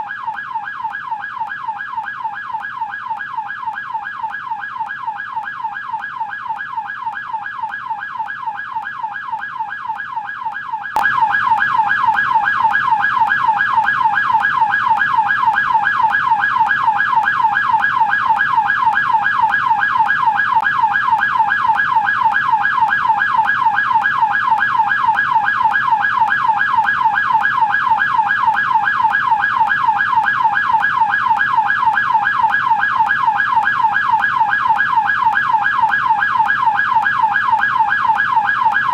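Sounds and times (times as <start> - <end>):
police siren yelp: 0.0 - 38.9.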